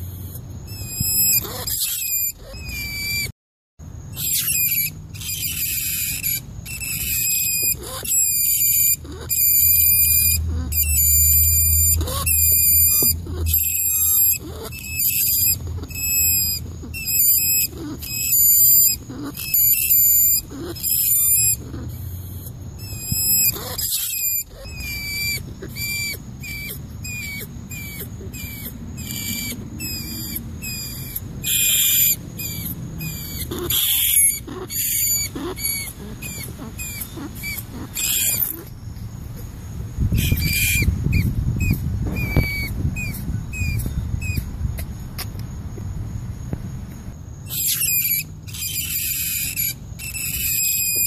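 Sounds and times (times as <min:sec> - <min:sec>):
rat squeaking: 0:00.0 - 0:03.3, 0:04.0 - 0:38.9, 0:40.0 - 0:44.9, 0:47.4 - 0:51.0
rat squealing: 0:00.0 - 0:03.3, 0:04.0 - 0:38.8, 0:40.1 - 0:44.9, 0:47.4 - 0:51.0.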